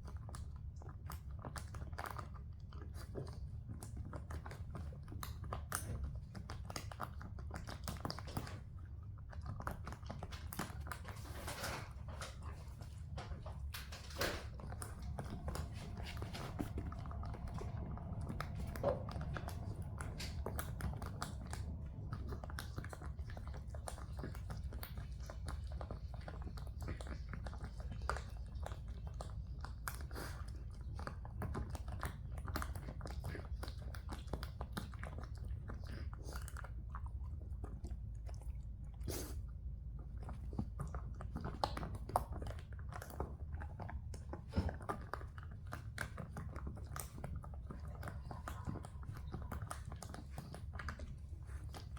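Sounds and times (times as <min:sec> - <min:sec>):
dog crunching dry kibble: 0:00.0 - 0:39.3, 0:40.0 - 0:51.9
low steady hum: 0:00.0 - 0:51.9.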